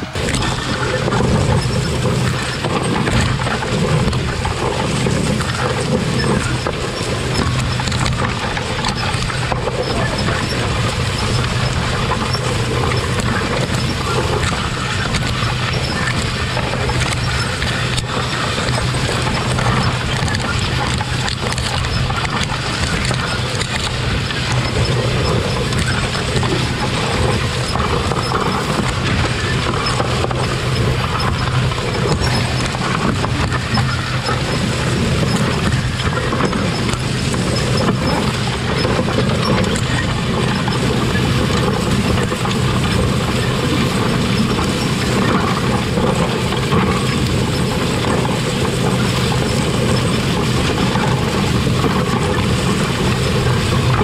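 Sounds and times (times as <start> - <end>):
low machinery drone: 0.0 - 54.0
row-cleaner wheels churning soil: 0.0 - 54.0.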